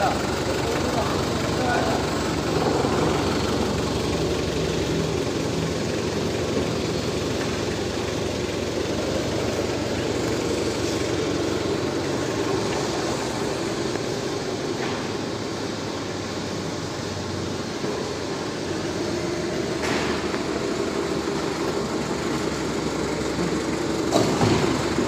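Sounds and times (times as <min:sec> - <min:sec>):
forklift engine humming: 0:00.0 - 0:25.0.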